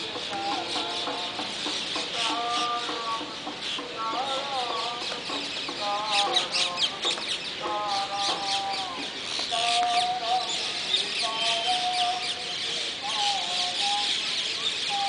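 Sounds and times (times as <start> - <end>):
birds chirping: 0.0 - 15.0
men chanting: 0.0 - 15.0.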